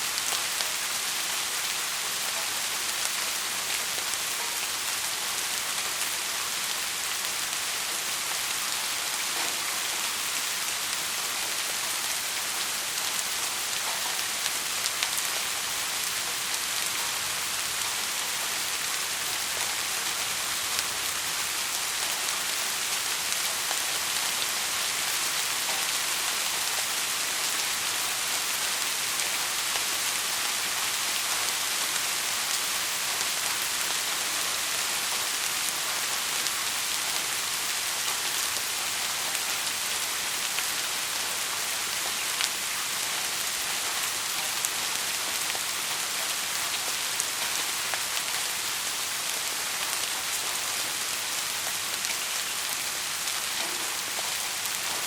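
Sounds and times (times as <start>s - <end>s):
heavy rain hiss: 0.0s - 55.0s
raindrops ticking on surface: 0.1s - 55.0s.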